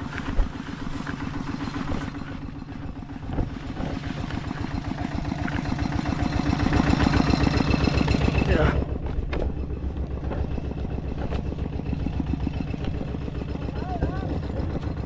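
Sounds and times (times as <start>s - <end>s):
small engine pulsing: 0.0s - 15.0s.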